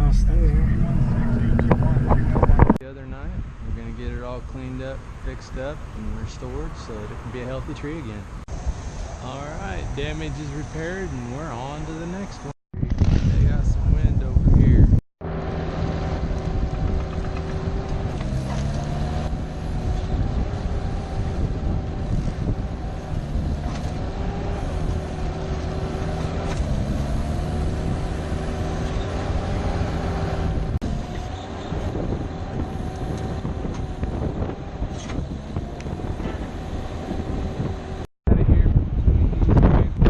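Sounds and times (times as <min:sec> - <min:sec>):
vehicle engine hum: 0:00.0 - 0:12.6, 0:13.5 - 0:38.1
road and wind noise: 0:00.0 - 0:40.0.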